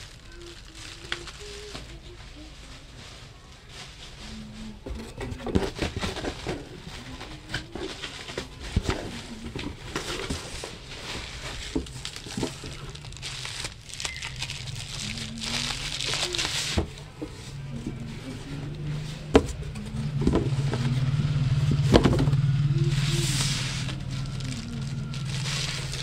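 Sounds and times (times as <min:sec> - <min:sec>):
plastic packaging crinkling: 0:00.0 - 0:02.0, 0:05.3 - 0:21.1, 0:22.6 - 0:26.0.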